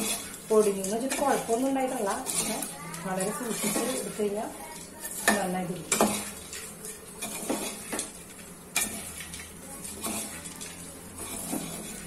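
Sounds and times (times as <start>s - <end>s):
spatula scraping a metal pot: 0.0s - 12.0s.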